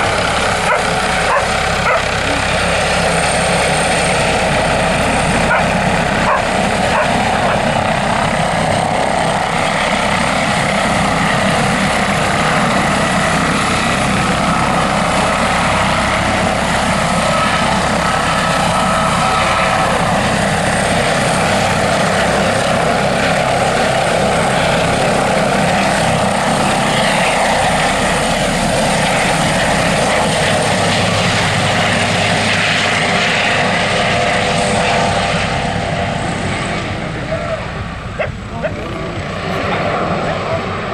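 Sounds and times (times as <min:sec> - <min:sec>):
model helicopter flying: 0:00.0 - 0:40.9.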